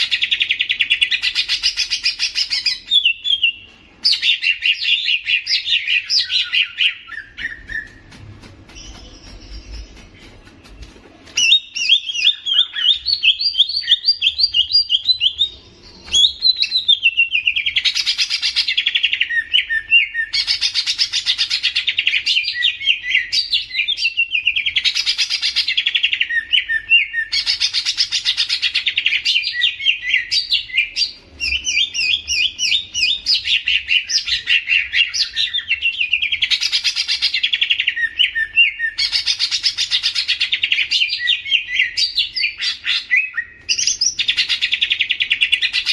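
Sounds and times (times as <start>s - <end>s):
songbird singing rapid chirps: 0.0s - 45.9s.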